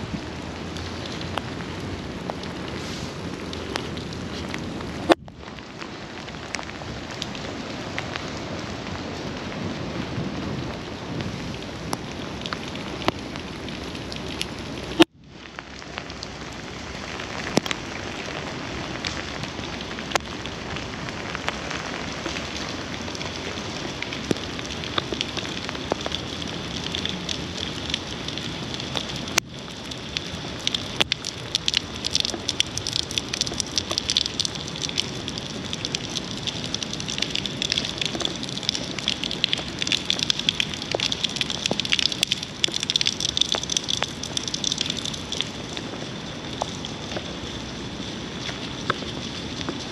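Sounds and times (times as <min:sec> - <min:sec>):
raindrops ticking close by: 0:00.0 - 0:49.9
steady rain falling: 0:00.0 - 0:49.9.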